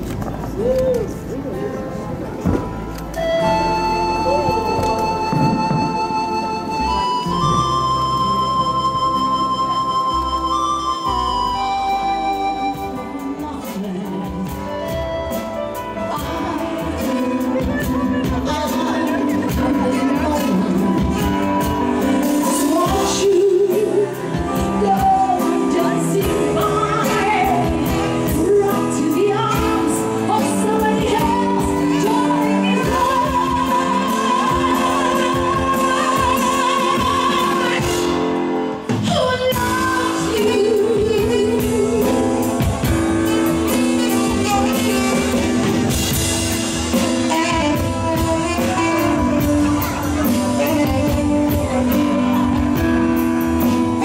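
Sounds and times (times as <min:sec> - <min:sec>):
live band music: 0:00.0 - 0:54.0.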